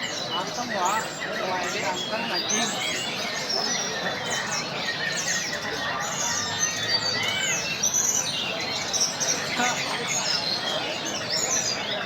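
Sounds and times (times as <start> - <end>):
background murmur: 0.0 - 12.0
songbirds singing: 0.0 - 12.0.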